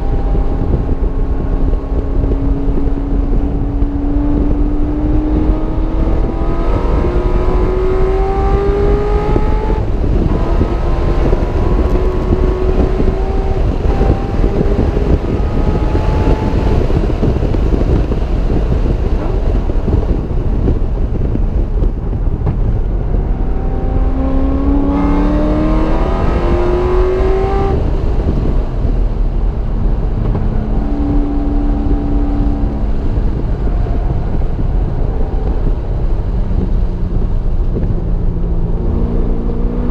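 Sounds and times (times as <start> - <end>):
car engine accelerating: 0.0 - 39.9
wind and road rumble: 0.0 - 39.9.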